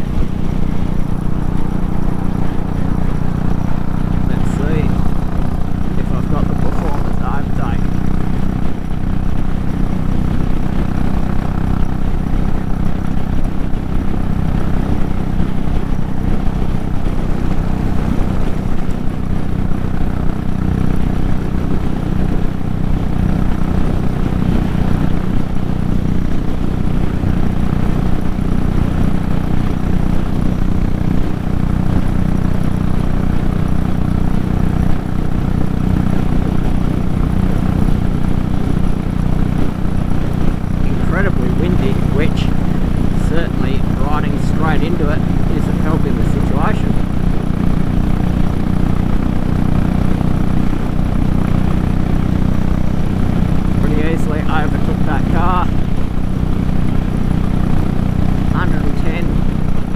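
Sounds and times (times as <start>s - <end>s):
single-cylinder motorcycle engine cruising: 0.0s - 59.9s.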